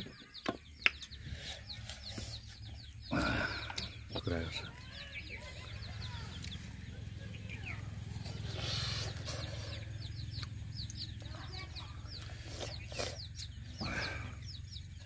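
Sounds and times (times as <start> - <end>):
birds chirping: 0.0 - 15.0
chickens clucking: 0.0 - 15.0.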